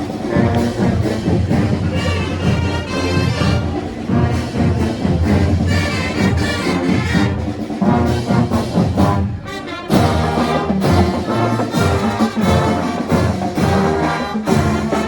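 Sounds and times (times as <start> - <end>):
marching band brass playing: 0.0 - 15.0.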